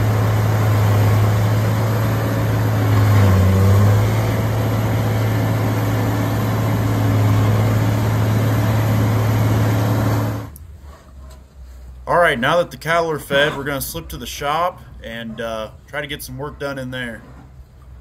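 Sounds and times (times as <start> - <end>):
diesel engine grinding hay: 0.0 - 18.0.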